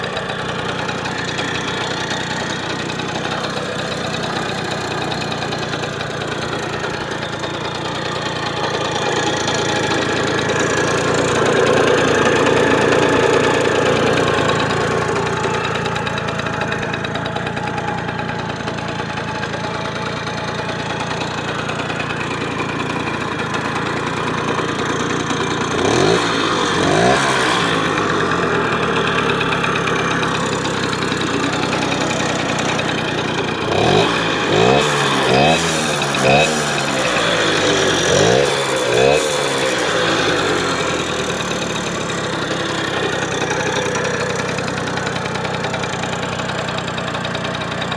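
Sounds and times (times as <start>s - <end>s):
moped engine idling: 0.0s - 47.9s.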